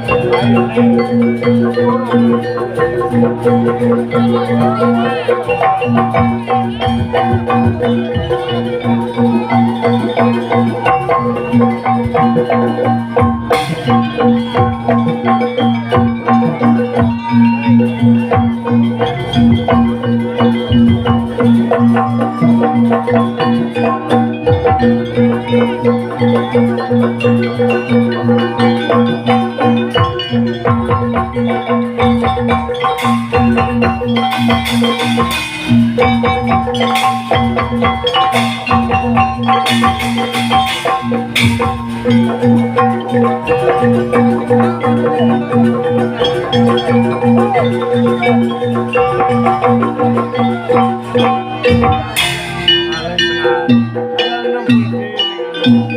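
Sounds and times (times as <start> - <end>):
gamelan music: 0.0 - 55.9.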